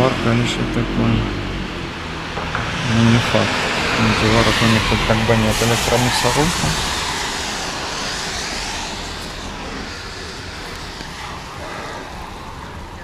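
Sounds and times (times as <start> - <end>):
car tyres hissing on wet road: 1.3 - 13.0.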